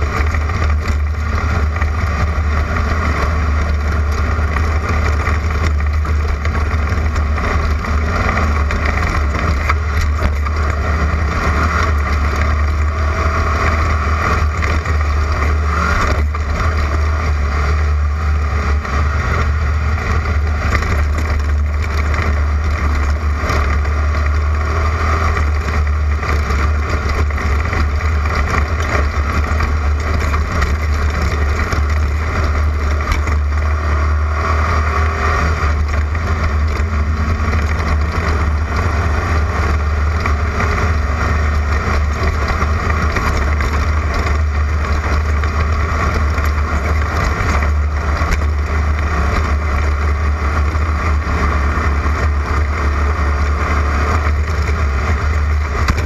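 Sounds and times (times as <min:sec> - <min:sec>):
heavy low rumble: 0:00.0 - 0:56.0
race car engine drone: 0:00.0 - 0:56.0.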